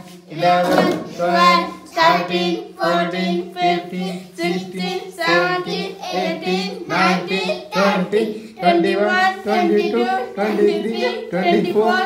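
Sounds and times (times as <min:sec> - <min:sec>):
voices chanting numbers in unison: 0:00.0 - 0:12.0.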